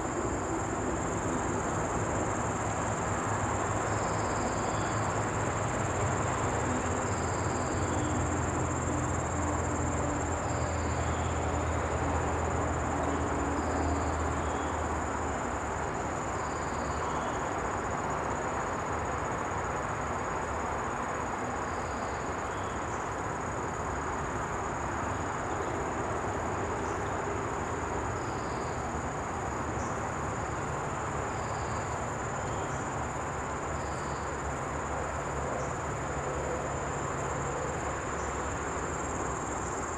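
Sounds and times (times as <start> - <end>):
cricket high-pitched trill: 0.0 - 39.9
steady background noise: 0.0 - 39.9.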